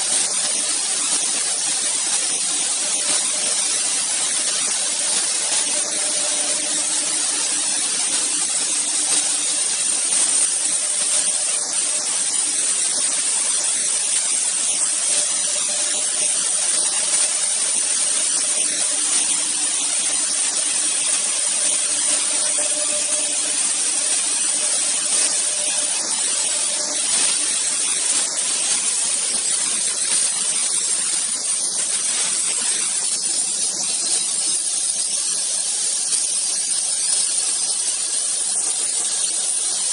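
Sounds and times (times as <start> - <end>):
router spindles cutting wood: 0.0 - 35.9.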